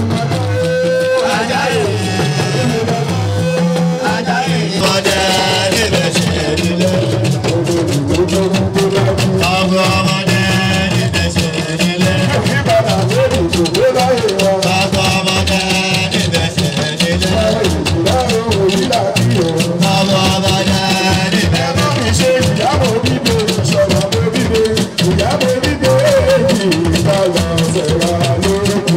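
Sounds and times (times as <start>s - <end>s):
hand drums: 0.0s - 28.9s
man singing through a microphone: 0.0s - 28.9s
rattling shaker: 4.0s - 28.9s.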